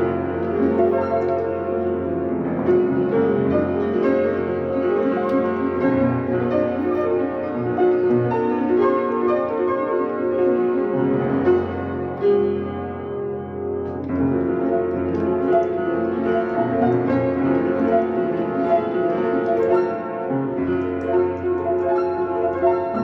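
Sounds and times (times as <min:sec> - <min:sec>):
solo piano improvising: 0:00.0 - 0:23.0.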